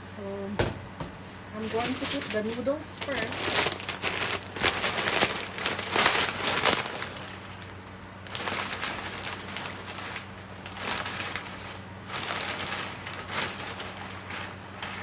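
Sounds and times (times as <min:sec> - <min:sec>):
dry noodles crunching in a pan: 0:01.7 - 0:15.0.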